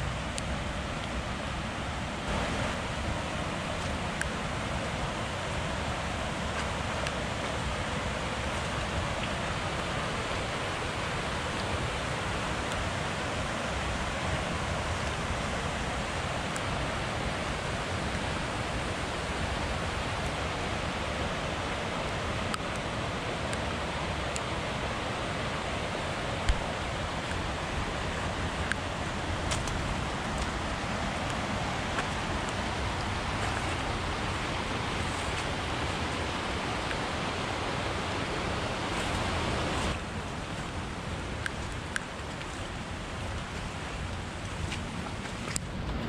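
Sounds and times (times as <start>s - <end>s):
running water rushing: 0.0s - 46.0s.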